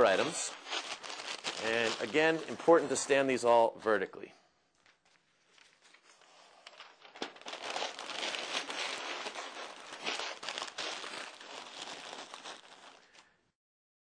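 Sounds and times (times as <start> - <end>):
packing paper crumpling: 0.0 - 3.2, 4.9 - 13.4.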